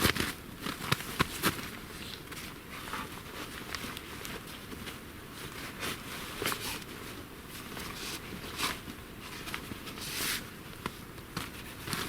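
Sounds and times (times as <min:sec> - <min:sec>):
rustling and light knocks: 0:00.0 - 0:12.0.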